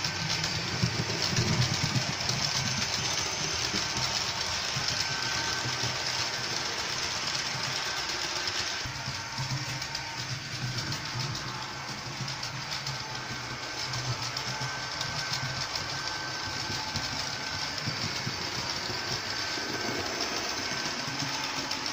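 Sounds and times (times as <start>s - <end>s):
model train rumbling: 0.0s - 21.9s.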